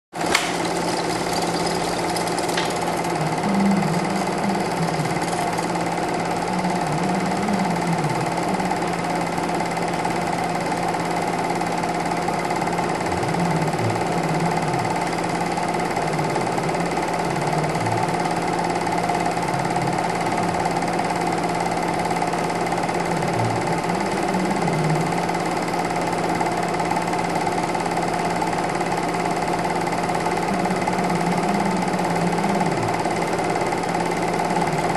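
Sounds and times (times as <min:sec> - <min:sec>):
film projector whirring: 0:00.1 - 0:34.9.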